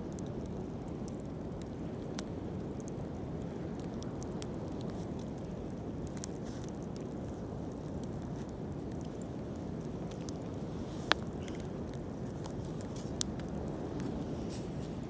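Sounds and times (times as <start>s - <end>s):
bonfire crackling and popping: 0.0s - 15.0s
low rush of fire: 0.0s - 15.0s.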